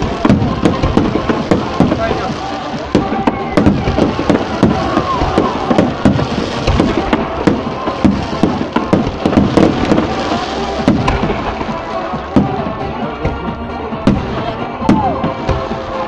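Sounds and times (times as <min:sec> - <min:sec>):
fireworks bangs: 0:00.0 - 0:16.0
fireworks crackle: 0:00.0 - 0:16.0.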